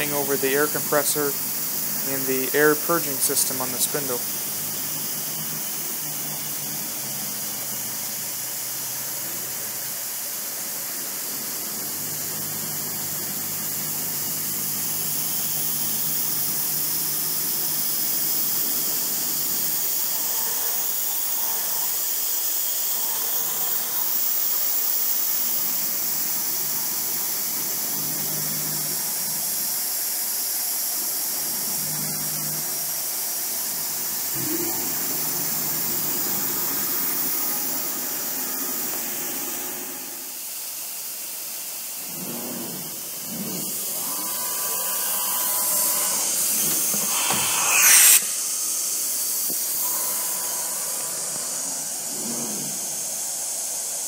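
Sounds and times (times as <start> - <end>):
steady air hiss: 0.0 - 54.0.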